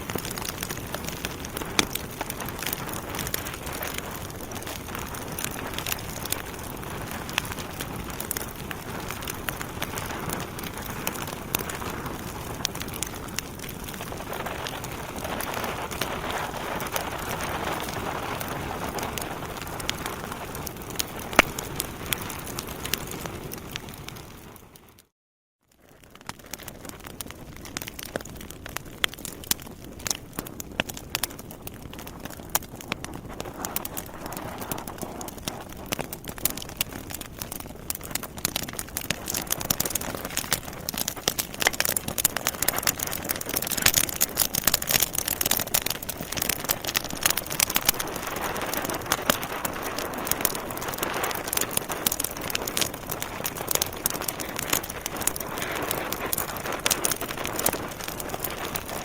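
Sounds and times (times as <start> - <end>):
wood fire crackling: 0.0 - 25.1, 25.8 - 59.0.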